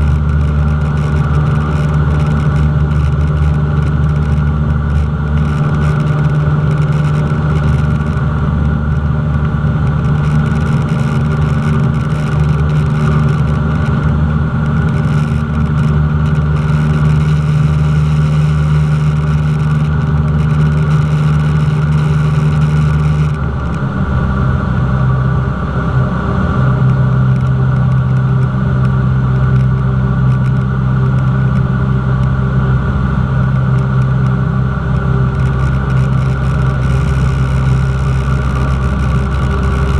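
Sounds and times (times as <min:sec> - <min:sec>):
light aircraft engine and propeller: 0:00.0 - 0:39.9.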